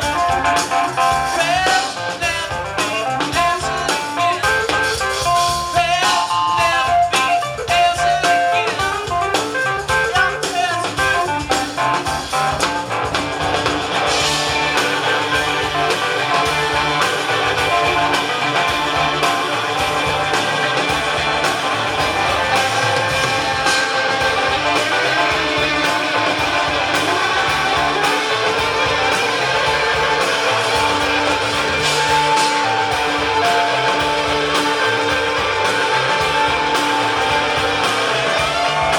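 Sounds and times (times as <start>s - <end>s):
picked guitar notes: 0.0s - 38.9s
rock band playing live: 0.0s - 38.9s.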